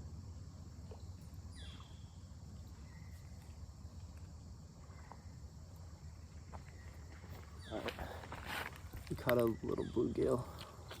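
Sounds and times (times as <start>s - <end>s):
faint insect chirring: 0.0s - 11.0s.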